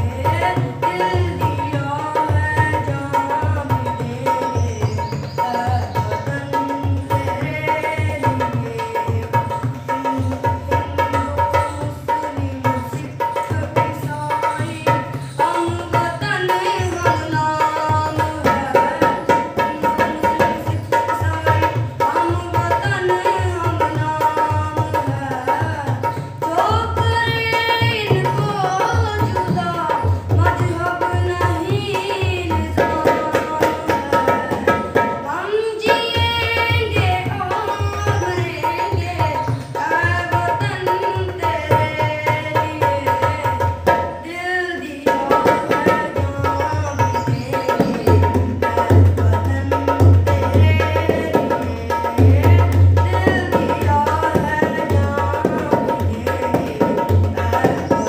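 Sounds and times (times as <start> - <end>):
hand drum rhythm: 0.0 - 44.1, 45.2 - 58.0
boy singing: 0.0 - 58.0.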